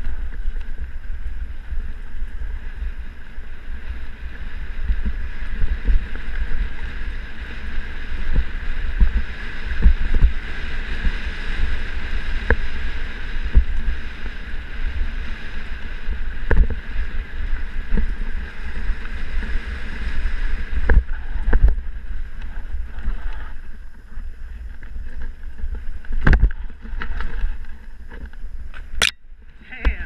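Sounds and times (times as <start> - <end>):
tyre and trail noise: 0.0 - 30.0
wind buffeting microphone: 0.0 - 30.0.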